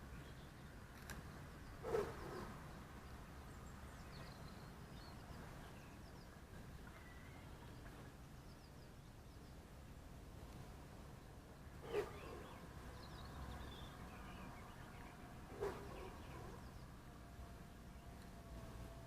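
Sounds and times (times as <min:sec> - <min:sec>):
distant birds chirping: 0:00.0 - 0:19.0.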